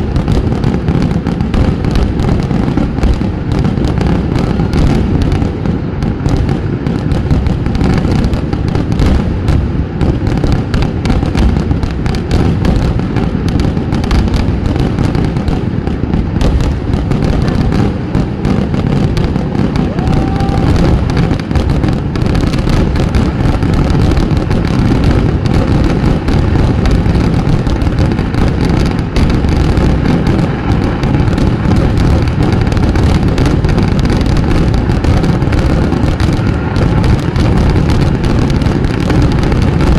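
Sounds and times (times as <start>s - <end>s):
firecracker blasts barrage: 0.0s - 39.9s.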